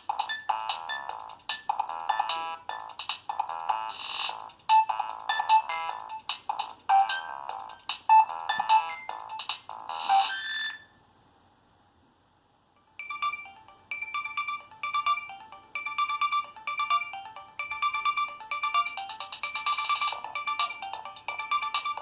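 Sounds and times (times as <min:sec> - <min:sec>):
cell phone ringtone beeping: 0:00.2 - 0:06.3, 0:06.9 - 0:10.9, 0:13.0 - 0:22.0.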